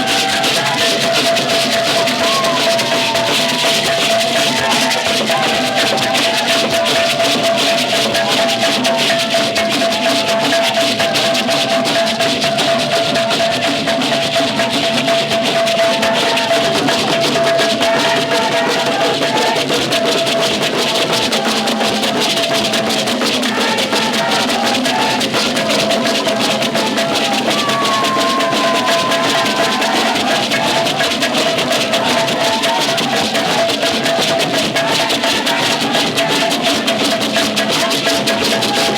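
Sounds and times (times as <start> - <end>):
rapid drumming: 0.0 - 38.9
shaker rattles: 0.0 - 38.9.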